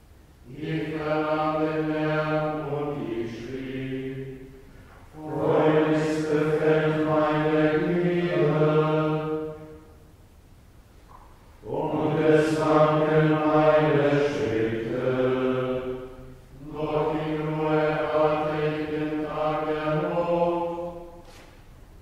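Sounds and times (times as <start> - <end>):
men chanting plainchant: 0.5 - 4.6, 5.2 - 9.6, 11.6 - 21.2.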